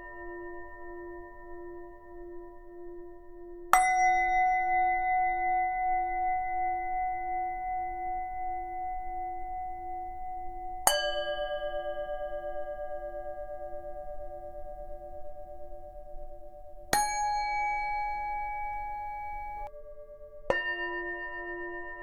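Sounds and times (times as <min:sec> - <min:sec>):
singing bowl ringing: 0:03.8 - 0:22.0.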